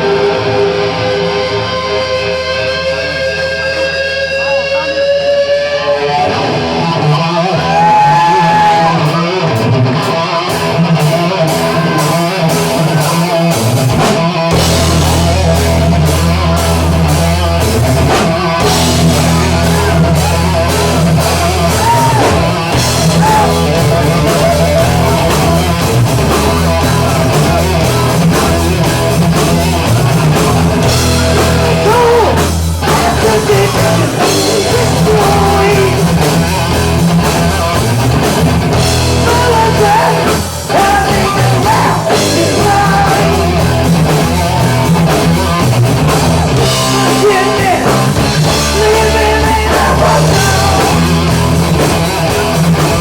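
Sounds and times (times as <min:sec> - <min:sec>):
electric guitar: 0:00.0 - 0:53.0
hard rock band playing live: 0:00.0 - 0:53.0.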